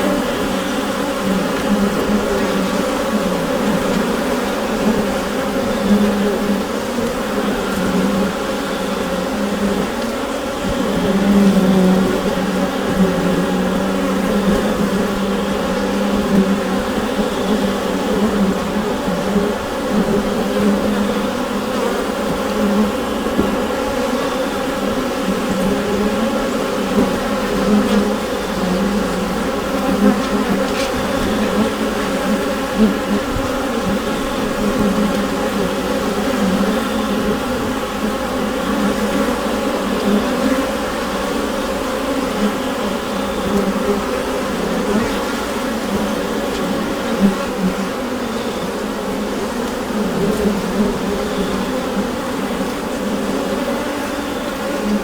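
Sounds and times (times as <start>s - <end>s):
dense buzz of many bees: 0.0s - 55.0s.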